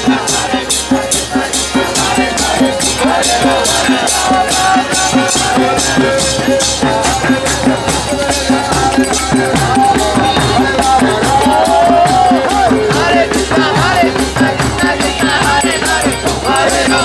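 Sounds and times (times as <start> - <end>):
drumming: 0.0 - 17.0
hand cymbals struck: 0.0 - 17.0.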